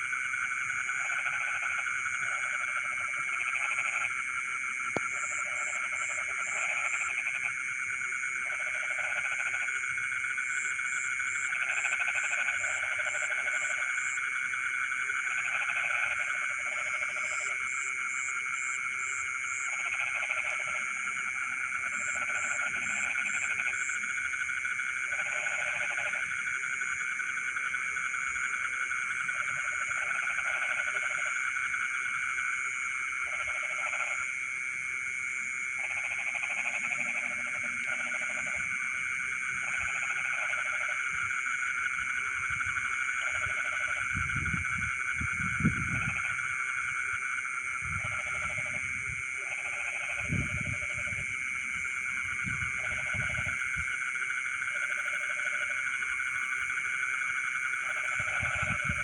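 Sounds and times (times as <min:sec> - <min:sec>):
frogs croaking: 0:00.0 - 0:59.0
frogs trilling: 0:00.0 - 0:59.0.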